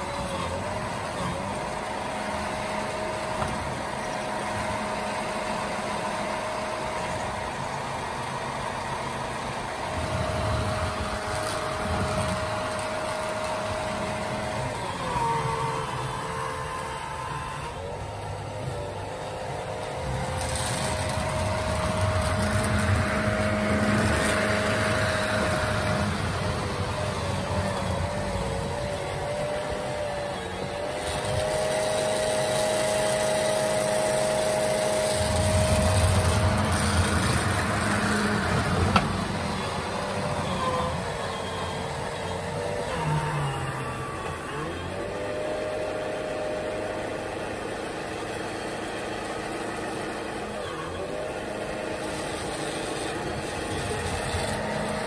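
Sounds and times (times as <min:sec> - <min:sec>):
electric motor whine: 0:00.0 - 0:55.0
low chassis hum: 0:00.0 - 0:55.0.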